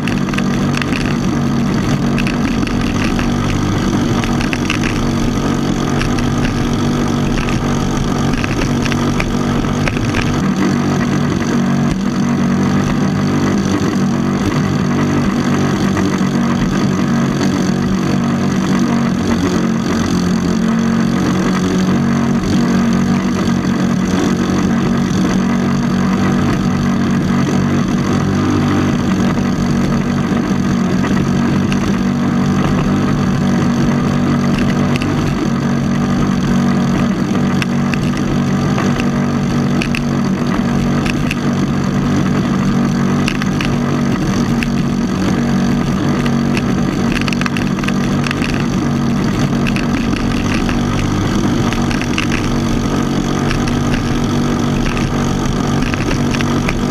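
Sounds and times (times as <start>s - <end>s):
small gasoline boat engine: 0.0s - 56.9s.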